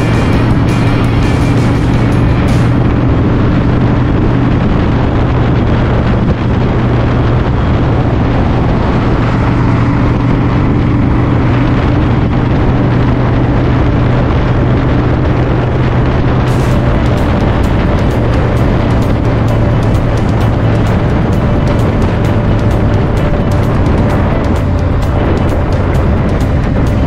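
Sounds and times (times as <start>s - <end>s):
motorcycle engine cruising: 0.0s - 27.0s
wind on microphone: 0.0s - 27.0s.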